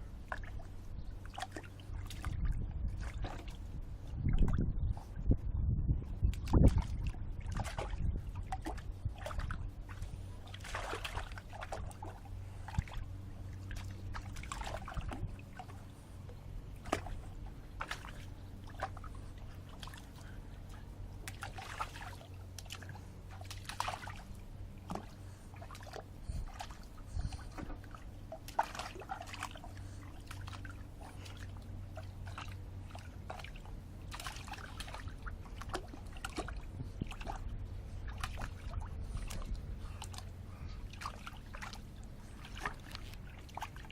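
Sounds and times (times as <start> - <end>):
steady low hum: 0.0 - 43.9
dog splashing water: 0.2 - 3.7, 6.4 - 16.0, 16.7 - 43.9.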